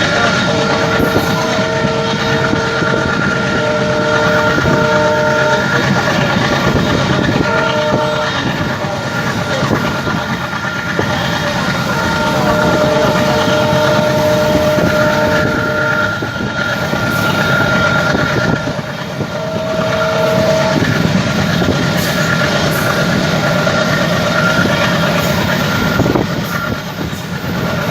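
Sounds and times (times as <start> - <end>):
two-note train horn: 0.0 - 26.8
train wheel clatter on rails: 0.0 - 27.9.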